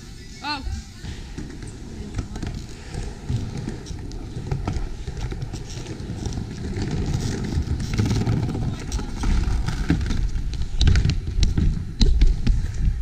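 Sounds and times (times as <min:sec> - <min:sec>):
skateboard wheels rolling: 0:00.0 - 0:13.0
skateboard clicks and knocks: 0:01.0 - 0:13.0.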